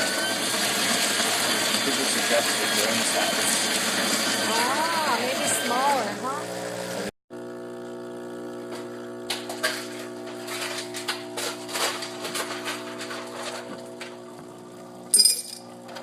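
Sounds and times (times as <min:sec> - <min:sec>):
espresso machine buzzing hum: 0:00.0 - 0:12.2, 0:12.8 - 0:16.0.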